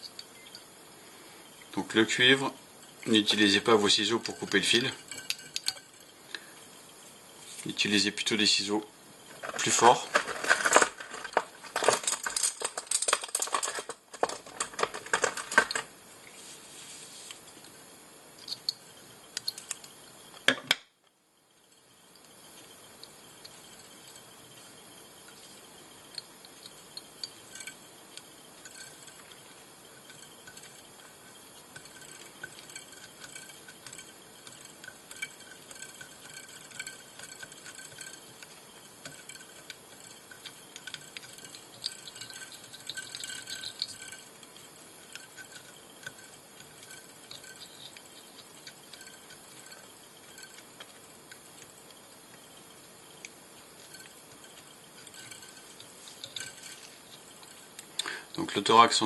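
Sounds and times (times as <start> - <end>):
wire winding ticks and scratches: 0.0 - 0.9, 1.5 - 16.0, 18.4 - 20.6, 21.5 - 59.0
steady hiss: 0.0 - 59.0.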